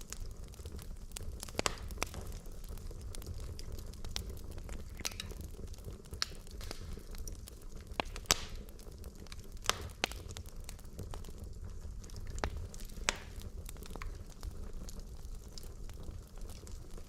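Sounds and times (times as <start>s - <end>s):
burning logs crackling and popping: 0.0s - 17.0s
fire low rumble: 0.0s - 17.0s.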